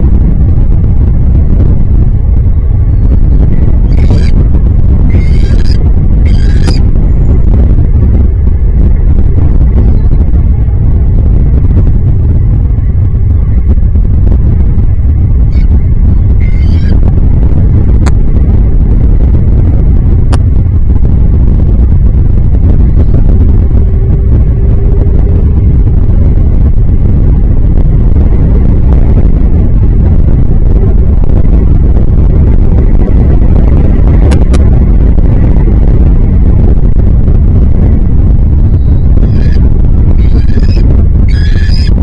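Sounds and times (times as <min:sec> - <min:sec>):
loud low rumble: 0:00.0 - 0:42.0.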